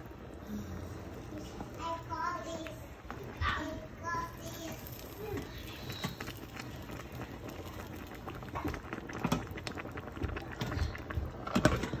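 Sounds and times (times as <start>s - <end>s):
soup bubbling in a pot: 0.0s - 12.0s.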